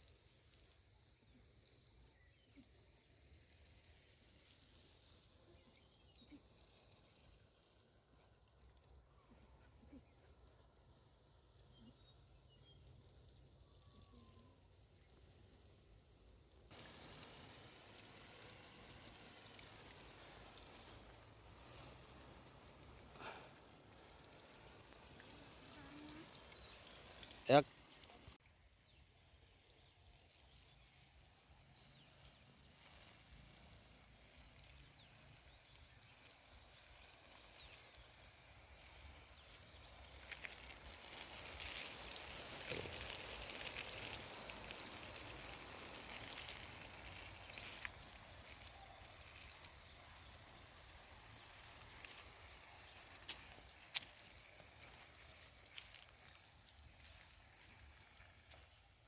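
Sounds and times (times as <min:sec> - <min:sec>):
outdoor hissing noise: 0:00.0 - 0:59.0.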